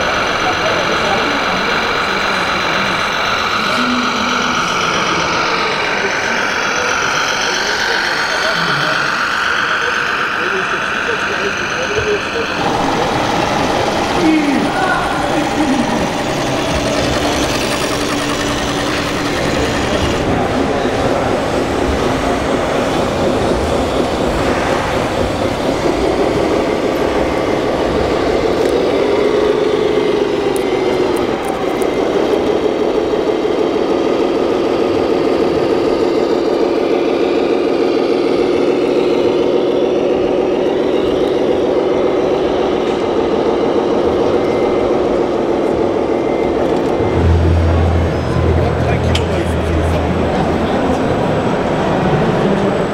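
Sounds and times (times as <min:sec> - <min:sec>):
model truck motor hum: 0:00.0 - 0:45.6.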